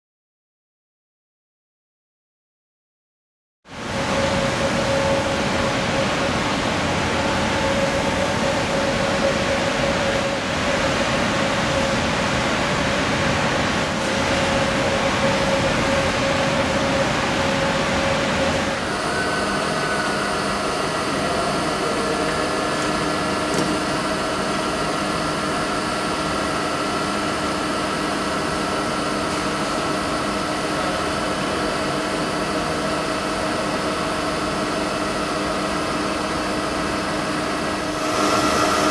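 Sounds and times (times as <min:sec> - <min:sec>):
milling machine hum and whine: 0:03.7 - 0:38.9.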